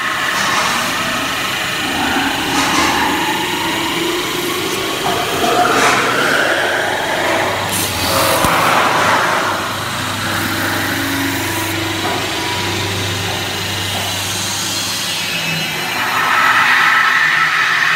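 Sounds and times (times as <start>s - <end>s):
machine hum: 0.0s - 17.9s
roller scraping spinning metal: 0.0s - 17.9s.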